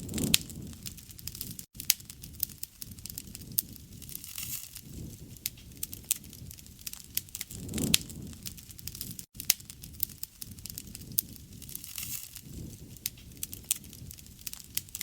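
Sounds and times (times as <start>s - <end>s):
low rush of flame: 0.0s - 15.0s
wood fire crackling and popping: 0.0s - 15.0s.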